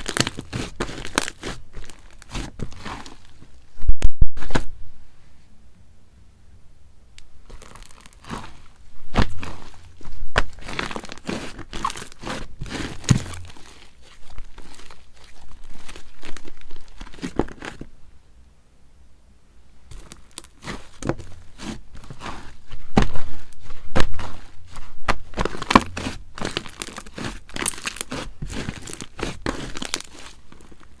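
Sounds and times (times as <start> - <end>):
slime squished by hand: 0.0 - 3.5, 7.2 - 17.8, 19.9 - 31.0.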